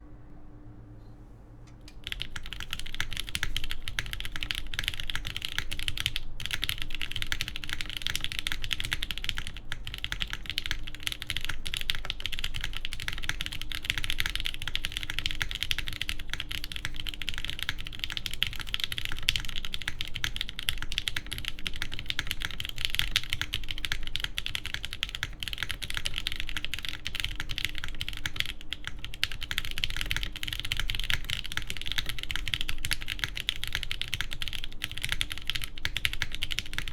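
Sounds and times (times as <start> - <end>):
fast mechanical keyboard typing: 2.0 - 36.9.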